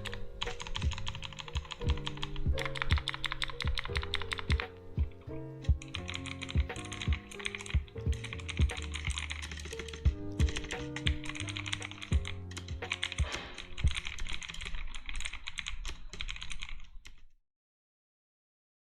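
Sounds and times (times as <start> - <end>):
fast mechanical keyboard typing: 0.0 - 4.6, 5.8 - 17.2
background music: 0.0 - 15.5.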